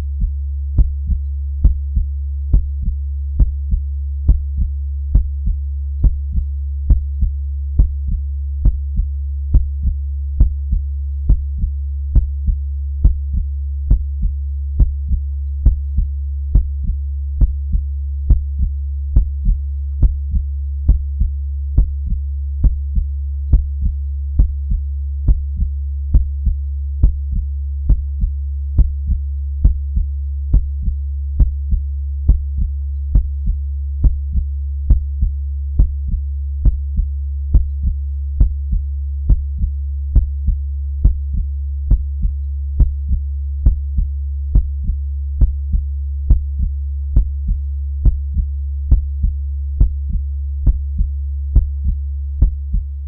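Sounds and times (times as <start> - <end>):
heartbeat: 0.0 - 53.0
low hum: 0.0 - 53.0.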